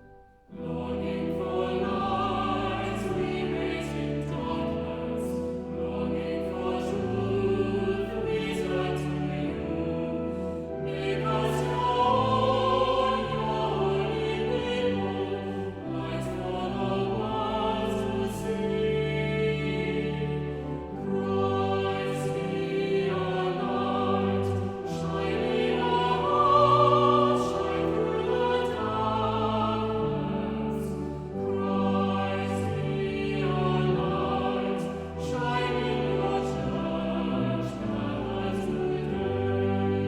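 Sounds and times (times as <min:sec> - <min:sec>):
congregation singing a hymn: 0:00.0 - 0:40.0.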